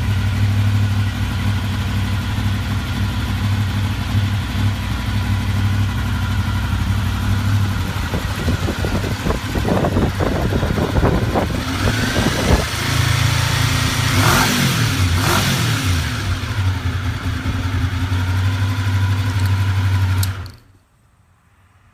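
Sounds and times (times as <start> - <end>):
motorcycle engine idling and revving: 0.0 - 20.7.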